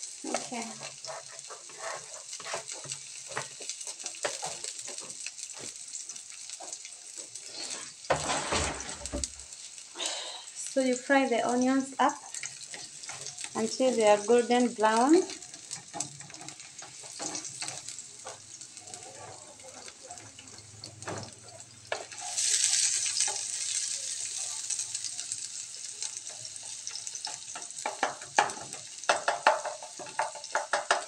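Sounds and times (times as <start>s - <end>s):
onions sizzling in a pan: 0.0s - 31.0s
spatula scraping and tapping a pan: 0.2s - 9.4s, 12.2s - 24.4s, 25.7s - 31.0s.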